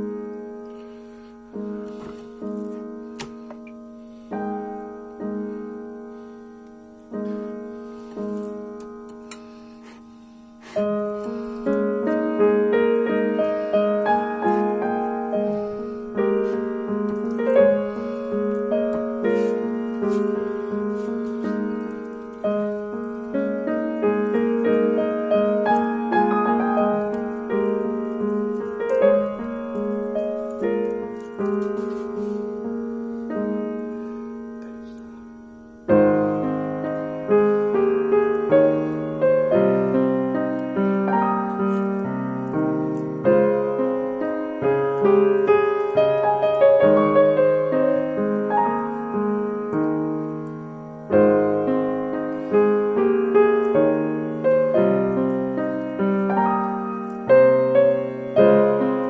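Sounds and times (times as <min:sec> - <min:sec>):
piano melody: 0:00.0 - 0:59.0.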